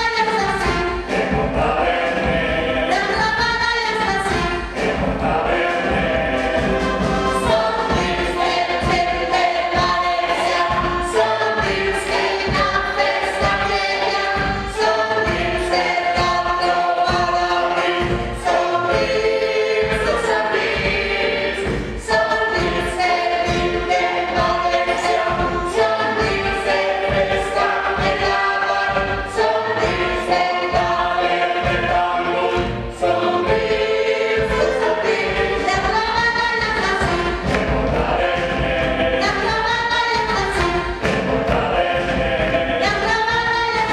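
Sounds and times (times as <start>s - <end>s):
accompaniment with steady beat: 0.0s - 43.9s
group singing in chorus: 0.0s - 43.9s.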